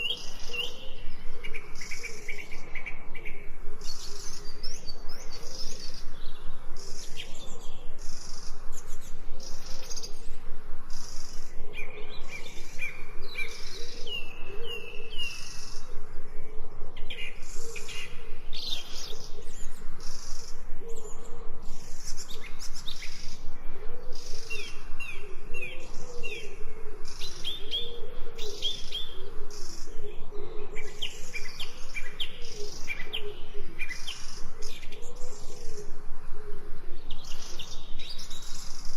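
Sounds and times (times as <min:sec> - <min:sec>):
birds chirping and trilling: 0:00.0 - 0:38.9
pulsing lower background chorus: 0:00.0 - 0:38.9.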